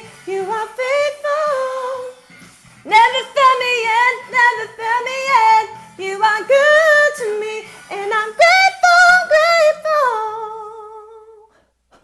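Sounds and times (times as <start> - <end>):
woman singing gospel with vibrato: 0.0 - 11.6.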